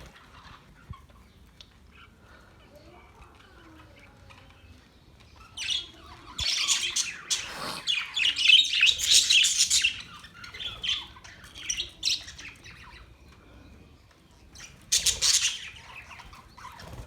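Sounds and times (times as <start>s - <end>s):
budgerigars chirping and squawking: 0.0s - 2.6s, 3.8s - 17.0s.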